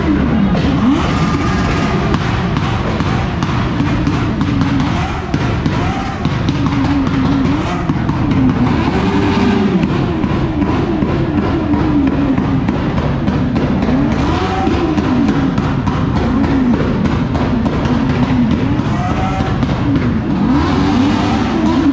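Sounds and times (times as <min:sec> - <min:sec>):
motorcycle engines revving: 0:00.0 - 0:21.9
music with drum beat: 0:00.6 - 0:21.9.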